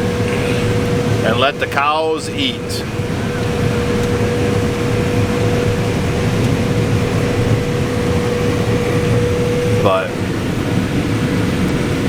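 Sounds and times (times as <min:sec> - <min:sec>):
combine harvester drone: 0:00.0 - 0:12.0
constant machine whine: 0:00.0 - 0:12.0.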